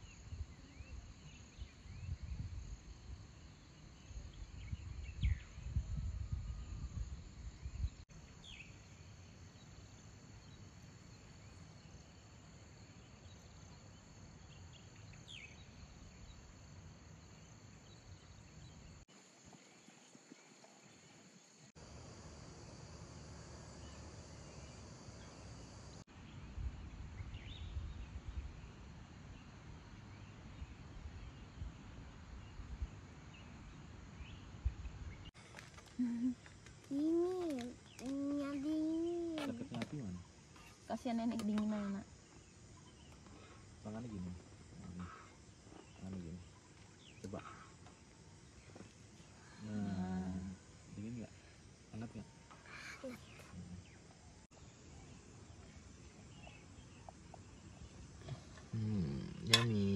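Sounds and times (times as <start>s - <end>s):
insect chorus drone: 0.0s - 59.9s.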